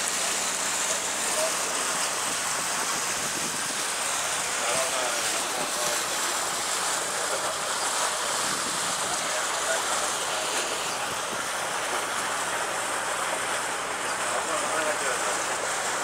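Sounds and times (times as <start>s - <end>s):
boat engine running: 0.0s - 16.0s
water washing along hull: 0.0s - 16.0s.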